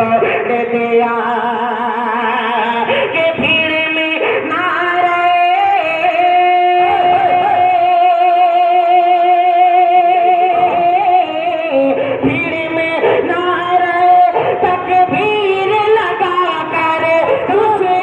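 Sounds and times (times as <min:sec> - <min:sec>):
man singing into microphone: 0:00.0 - 0:18.0.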